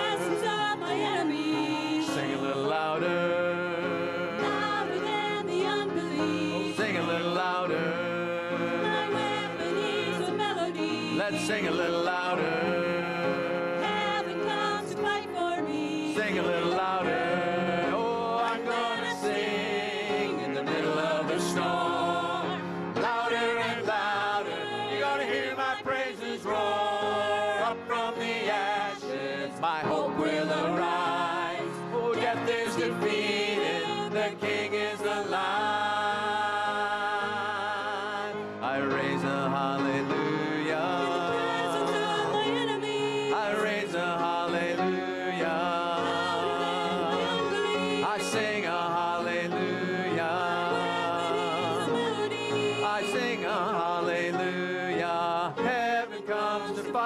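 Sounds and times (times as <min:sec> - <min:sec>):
backing music: 0:00.0 - 0:57.0
men and women singing: 0:00.0 - 0:57.0.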